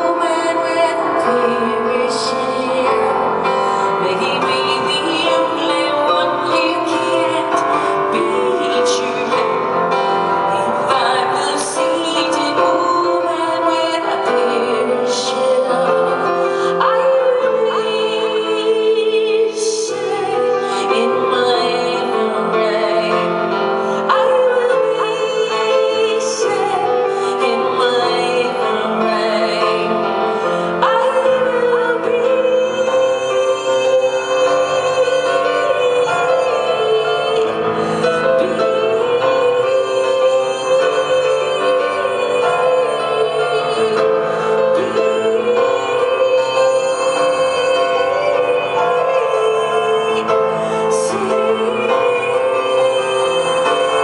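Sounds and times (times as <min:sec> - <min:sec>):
piano accompaniment: 0:00.0 - 0:54.0
woman singing: 0:00.0 - 0:54.0.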